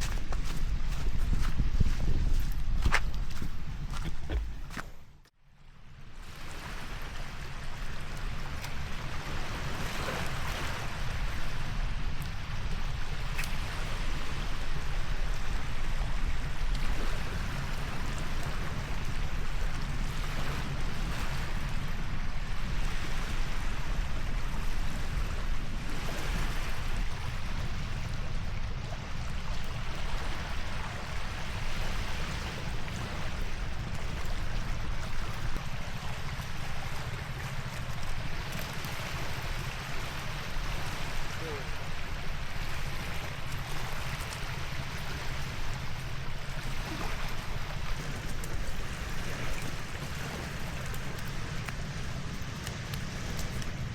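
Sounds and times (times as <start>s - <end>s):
rushing water: 0.0s - 53.9s.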